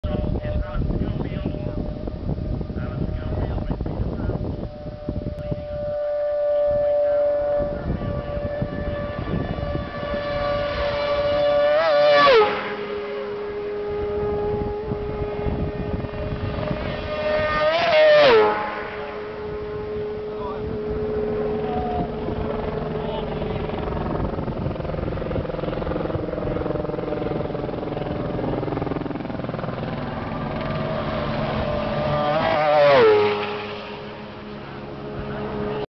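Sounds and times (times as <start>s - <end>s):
racing sidecar engine passing: 0.0s - 35.9s.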